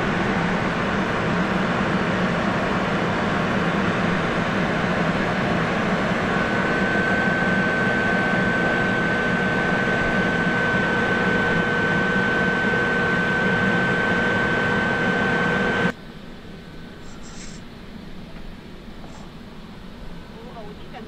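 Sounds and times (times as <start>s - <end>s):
high whine: 0.0s - 20.4s
electric train rumble and hiss: 0.0s - 21.0s.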